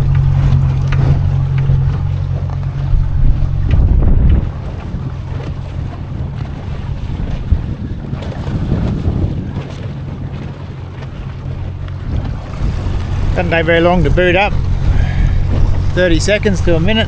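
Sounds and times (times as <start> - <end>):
motor humming: 0.0 - 8.8, 9.4 - 17.0
water lapping: 0.0 - 17.0
wind buffeting microphone: 0.0 - 17.0.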